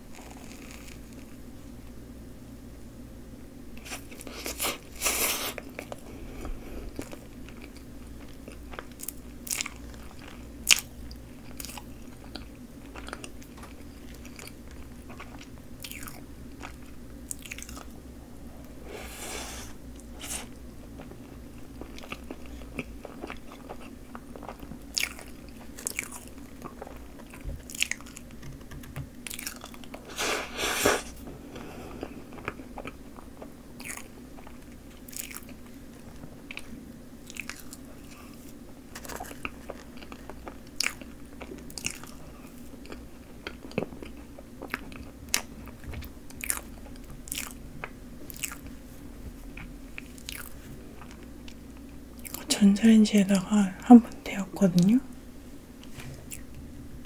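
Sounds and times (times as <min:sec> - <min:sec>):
soft chewing and mouth clicks: 0:00.1 - 0:01.4, 0:03.8 - 0:18.0, 0:19.9 - 0:30.1, 0:31.1 - 0:52.5, 0:55.8 - 0:56.6.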